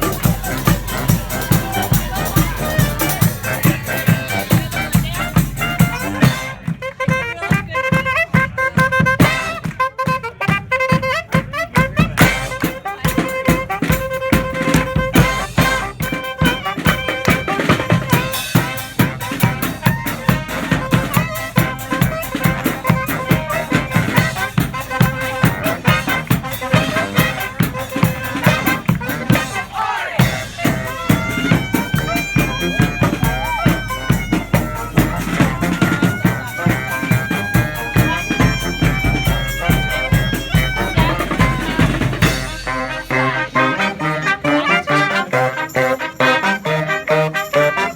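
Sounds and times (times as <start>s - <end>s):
marching band playing: 0.0s - 47.9s
wind instrument bending notes: 0.0s - 47.9s.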